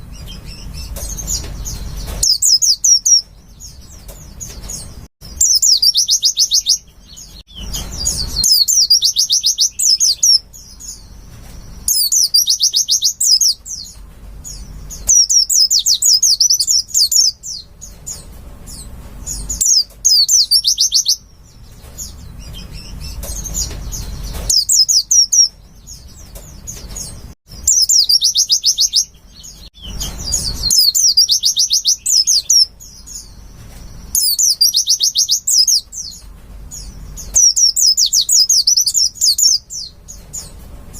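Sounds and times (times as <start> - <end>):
bird chattering song: 0.0 - 40.6.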